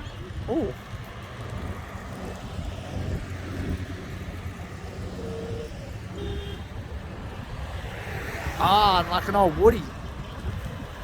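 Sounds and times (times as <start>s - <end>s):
cars driving slowly past: 0.0s - 11.0s.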